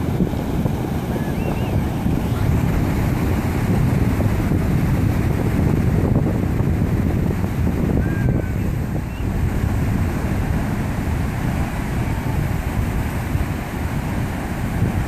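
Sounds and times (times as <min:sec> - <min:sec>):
surf breaking on rocky shore: 0:00.0 - 0:15.0
wind buffeting microphone: 0:00.0 - 0:15.0.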